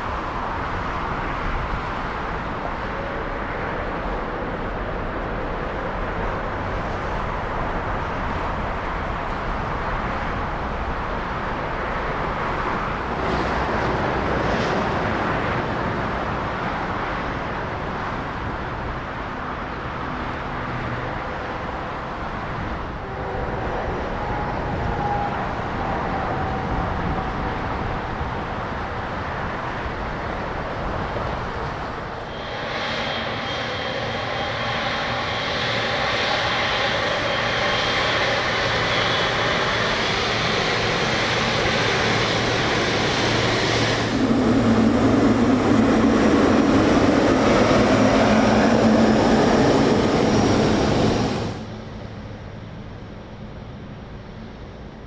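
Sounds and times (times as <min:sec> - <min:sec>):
jet engines rushing: 0:00.0 - 0:54.8
high engine whine: 0:00.0 - 0:55.0.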